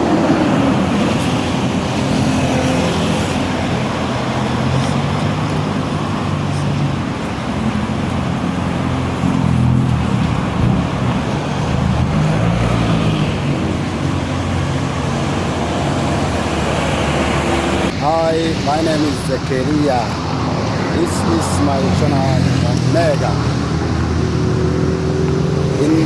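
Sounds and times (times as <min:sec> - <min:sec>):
steady traffic roar: 0:00.0 - 0:26.0
vehicles driving past: 0:00.0 - 0:26.0.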